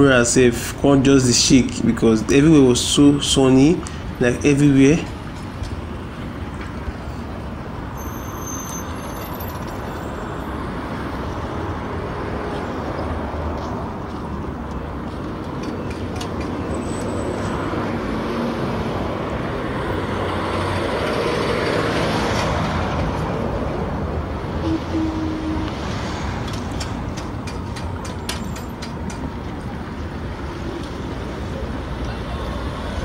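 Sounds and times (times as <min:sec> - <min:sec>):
traffic driving past: 0:00.0 - 0:33.0.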